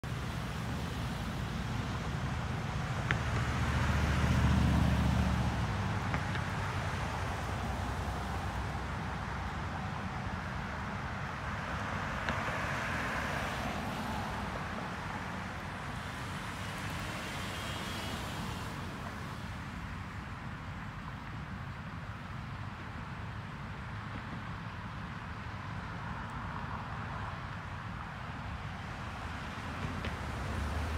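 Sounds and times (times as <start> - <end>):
cars driving past: 0.0 - 20.2, 26.1 - 30.9.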